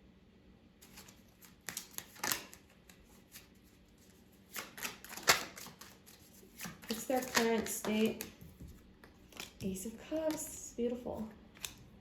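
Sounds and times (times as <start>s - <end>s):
cards shuffling and slapping: 0.8s - 10.6s, 11.5s - 11.9s.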